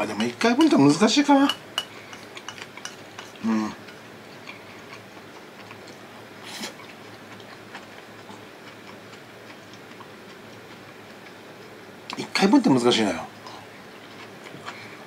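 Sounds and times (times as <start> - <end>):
faint chewing: 1.8 - 12.2, 13.3 - 15.0.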